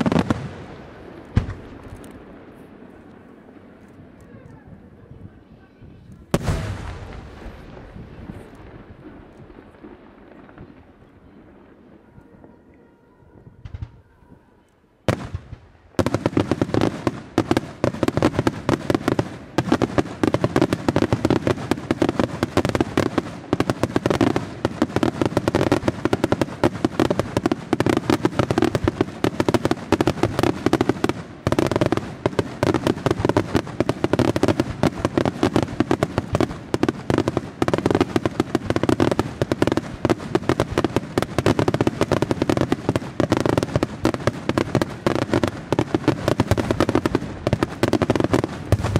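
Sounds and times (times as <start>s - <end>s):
fireworks bangs: 0.0s - 48.9s.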